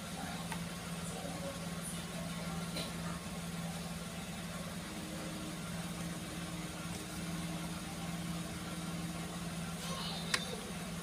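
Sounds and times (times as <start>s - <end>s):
faint higher hum: 0.0s - 11.0s
low electrical hum: 0.0s - 11.0s.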